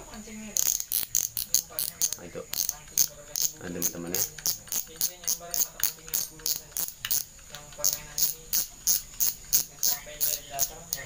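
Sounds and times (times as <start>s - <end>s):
fishing reel clicking: 0.6s - 11.0s.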